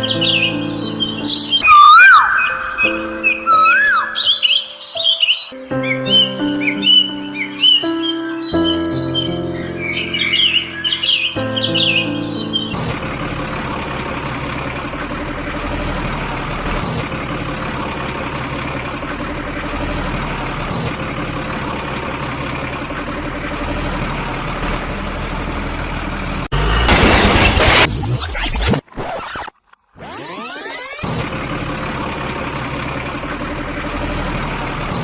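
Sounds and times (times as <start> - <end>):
truck engine running: 0.0 - 27.9, 29.8 - 35.0.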